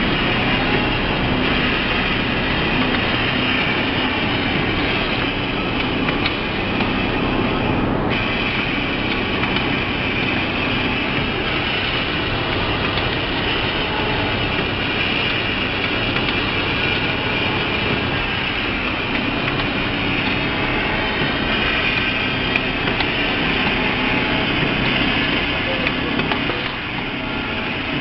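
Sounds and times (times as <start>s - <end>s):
packing machine humming: 0.0s - 28.0s.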